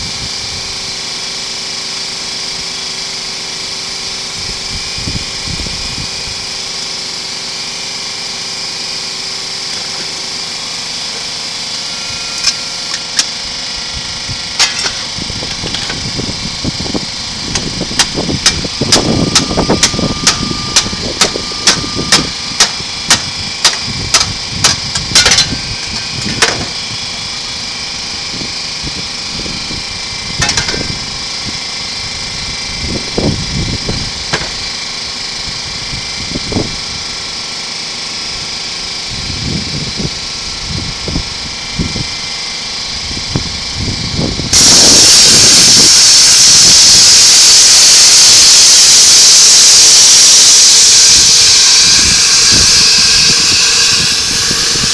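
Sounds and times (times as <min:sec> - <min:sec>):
steady mechanical hum: 0:00.0 - 0:54.9.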